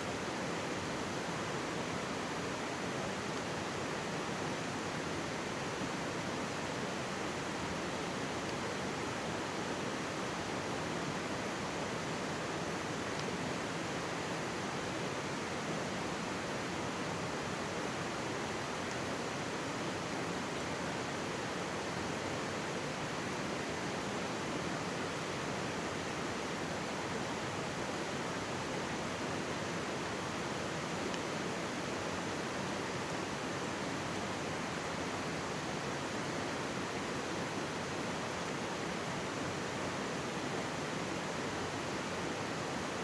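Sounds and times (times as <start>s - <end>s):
mountain stream rushing: 0.0s - 43.0s.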